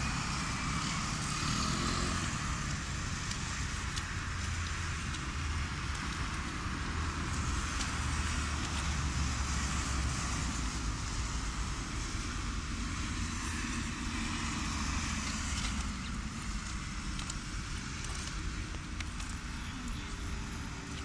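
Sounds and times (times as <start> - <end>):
tyre hiss on wet road: 0.0 - 21.0.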